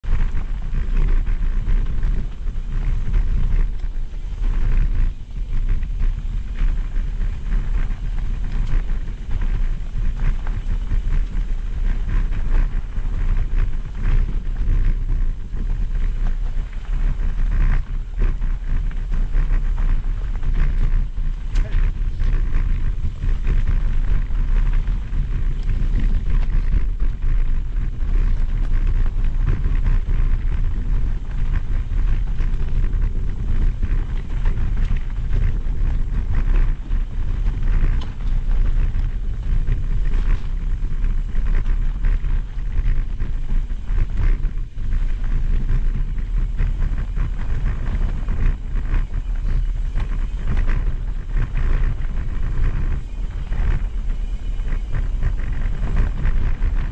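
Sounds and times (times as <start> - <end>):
bike rattling: 0.0 - 56.9
wind on microphone: 0.0 - 56.9.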